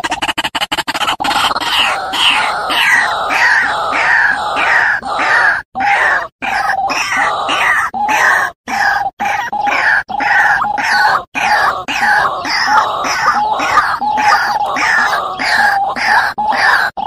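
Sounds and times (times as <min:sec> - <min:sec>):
waterhen calling: 0:00.9 - 0:17.0.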